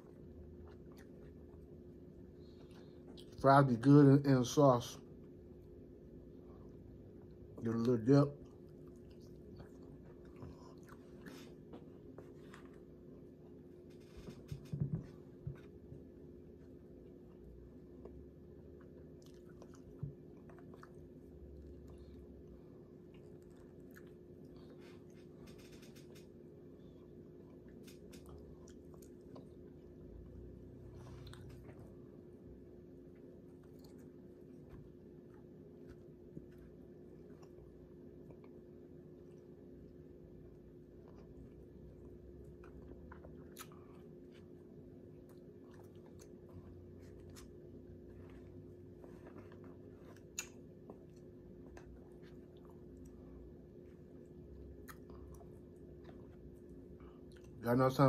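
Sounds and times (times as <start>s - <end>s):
person chewing food: 0.0s - 3.4s, 8.4s - 57.6s
steady low hum: 0.0s - 58.0s.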